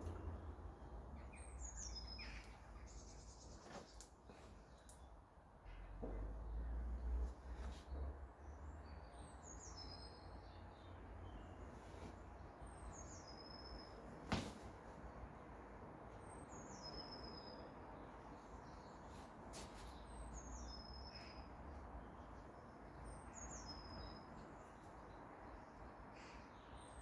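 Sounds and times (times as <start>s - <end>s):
songbird singing: 0.0s - 14.2s, 16.1s - 27.0s.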